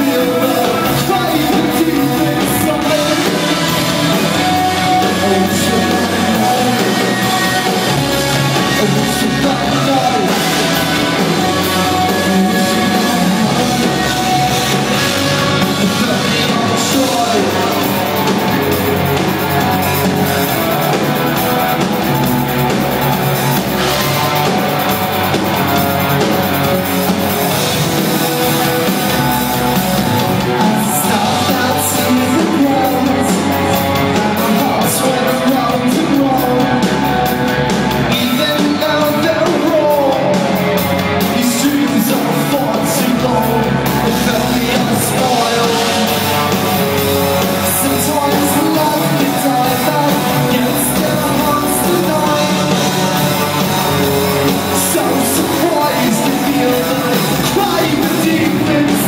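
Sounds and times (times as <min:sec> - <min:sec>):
drums: 0:00.0 - 0:59.0
electric guitar: 0:00.0 - 0:59.0
person singing: 0:00.0 - 0:59.0.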